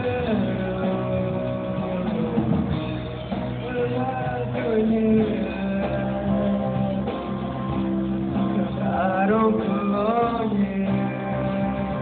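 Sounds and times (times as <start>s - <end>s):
person singing: 0.0s - 12.0s
strummed guitar chords: 0.0s - 12.0s.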